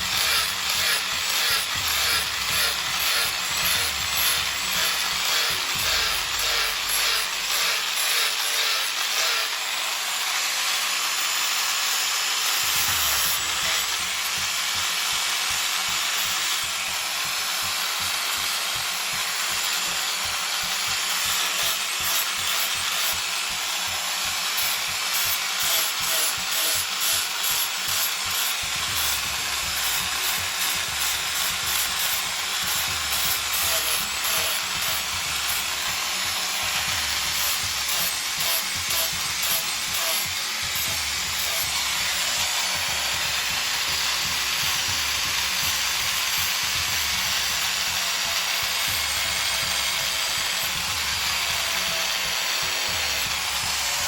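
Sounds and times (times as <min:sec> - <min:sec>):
power sander on wood: 0:00.0 - 0:54.0.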